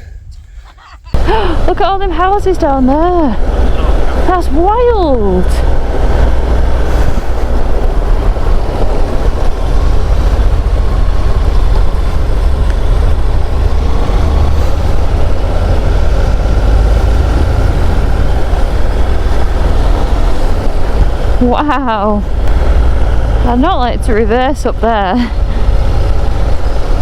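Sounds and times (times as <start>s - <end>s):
road noise: 0.0s - 27.0s
wind rumble on microphone: 1.1s - 27.0s
motorcycle engine: 1.2s - 27.0s.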